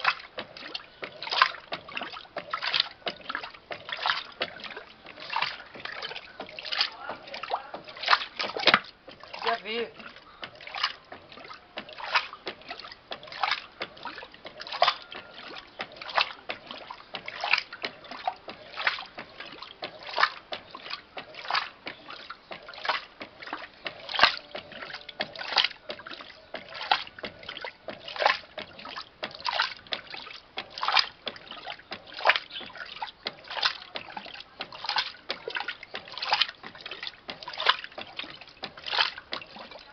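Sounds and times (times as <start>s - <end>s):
washing machine water sloshing: 0.0s - 39.9s.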